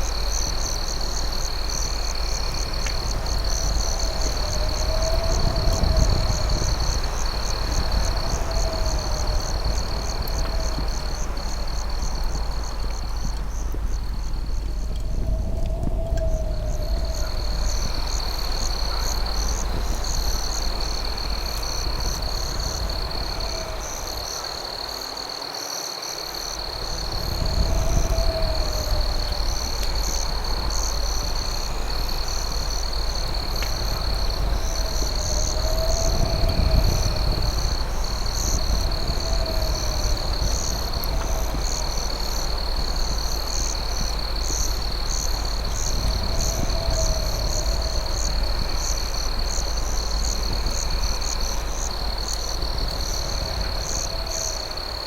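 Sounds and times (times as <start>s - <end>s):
low rumble: 0.0s - 24.5s, 26.6s - 54.8s
crickets trilling: 0.0s - 55.0s
pulsing insect chirp: 0.0s - 55.0s.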